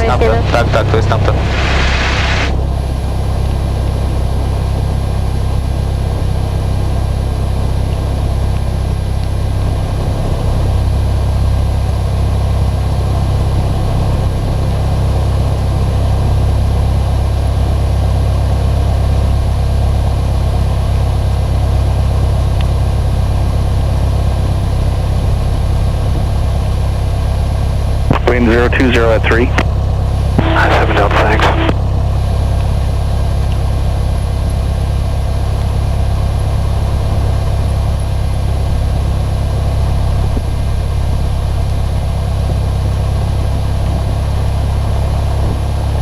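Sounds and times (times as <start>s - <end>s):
aircraft engine idling: 0.0s - 46.0s.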